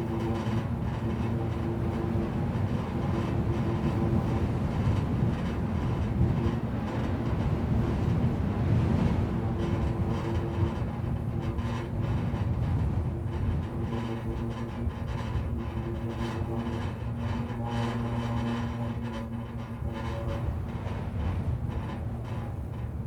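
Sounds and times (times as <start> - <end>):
humming tones at electricity pole: 0.0 - 23.0.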